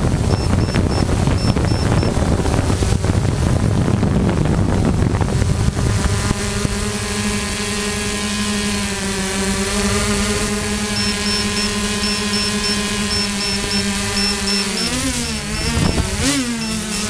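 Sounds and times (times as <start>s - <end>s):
rushing wind-like noise: 0.0s - 16.9s
drone droning hum: 0.0s - 17.0s.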